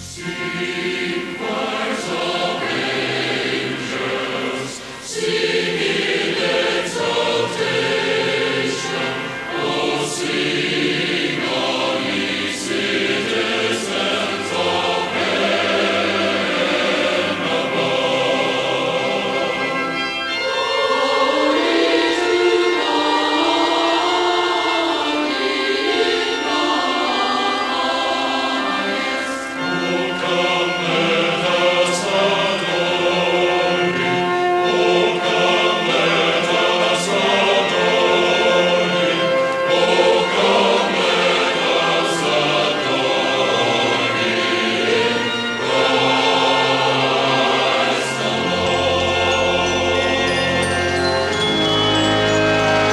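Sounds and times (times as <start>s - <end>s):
choir singing: 0.0s - 52.9s.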